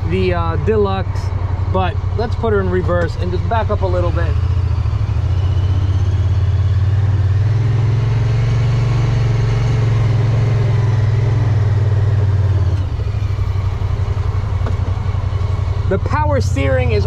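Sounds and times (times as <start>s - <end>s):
engine droning at low speed: 0.0s - 17.0s.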